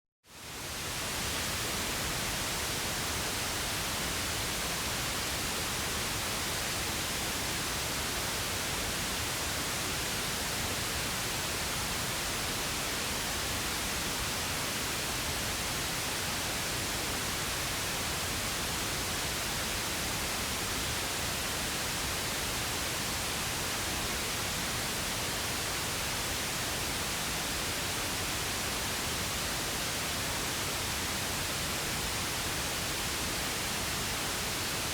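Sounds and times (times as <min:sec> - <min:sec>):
pink noise hiss: 0:00.3 - 0:34.9.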